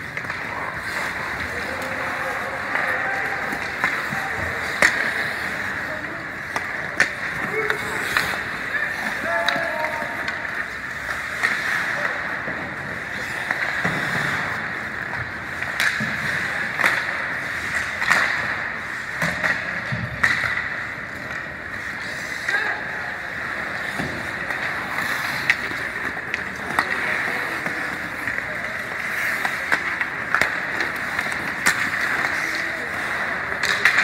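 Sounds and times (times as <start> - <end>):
hockey sticks and puck clacking: 0.0 - 34.0
skates scraping on ice: 0.0 - 34.0.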